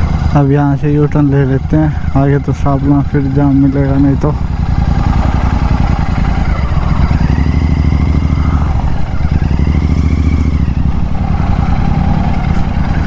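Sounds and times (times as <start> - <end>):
motorcycle engine and exhaust: 0.0 - 13.0.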